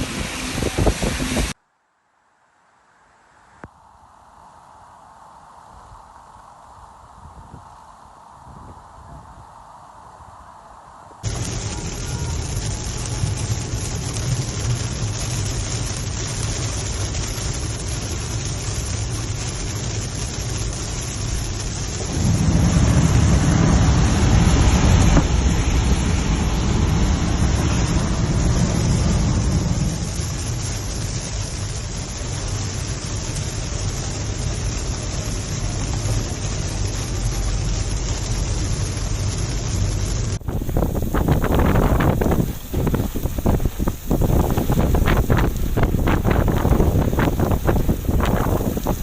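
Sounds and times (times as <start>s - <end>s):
steady rain: 0.0s - 1.6s, 3.6s - 49.0s
thunder rumbling: 7.1s - 49.0s.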